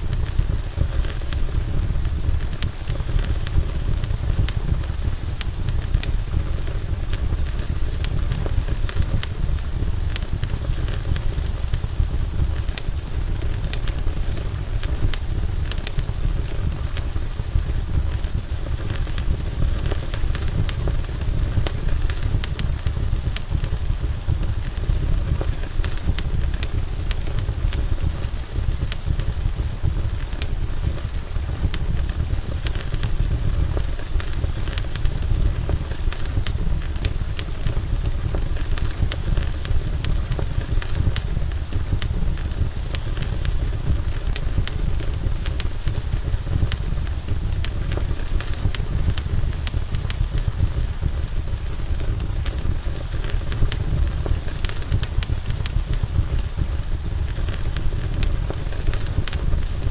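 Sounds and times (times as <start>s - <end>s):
campfire crackling and popping: 0.0s - 59.9s
steady low rumble: 0.0s - 59.9s.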